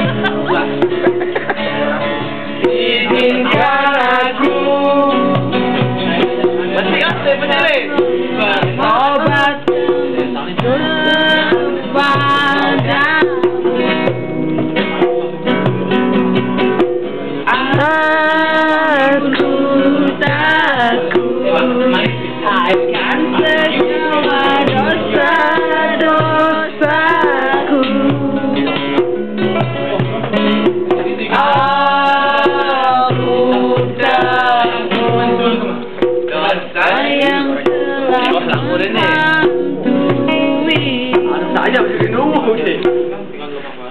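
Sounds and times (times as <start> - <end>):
voices singing: 0.0 - 15.5, 16.8 - 43.4
acoustic guitars strummed: 0.0 - 43.9.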